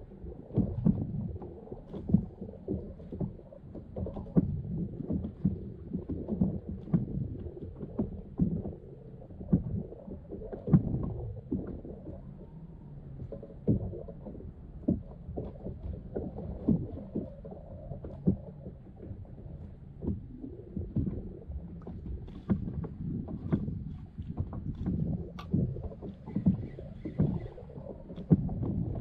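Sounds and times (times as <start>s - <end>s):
water rumbling against kayak hull: 0.0s - 29.0s
knocks and thumps on hull: 0.5s - 8.8s, 9.4s - 12.1s, 13.2s - 29.0s.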